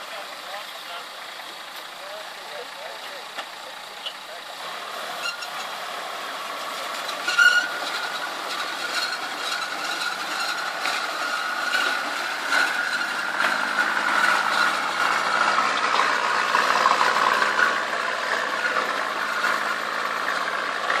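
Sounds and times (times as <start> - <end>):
vehicle engine running: 0.0 - 21.0
rubber tracks squealing and rattling: 3.0 - 21.0.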